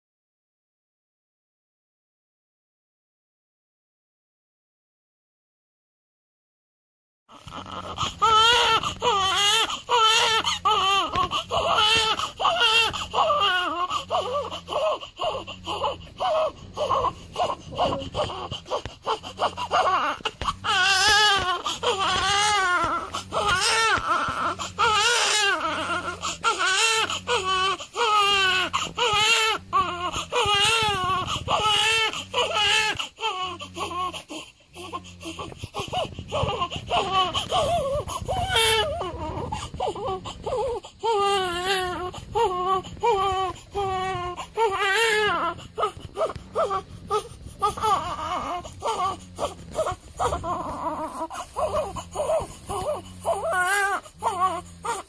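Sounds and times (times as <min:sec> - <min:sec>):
newborn baby crying: 0:07.3 - 0:55.0.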